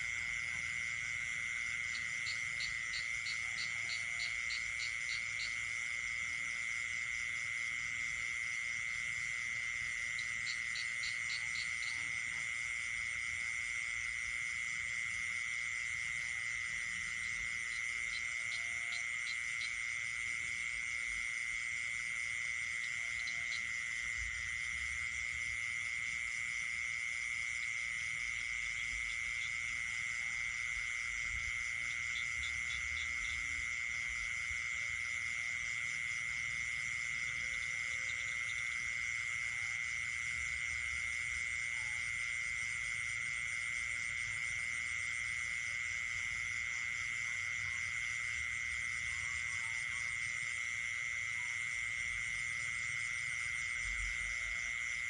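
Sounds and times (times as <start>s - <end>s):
crickets and frogs calling: 0.0s - 55.0s.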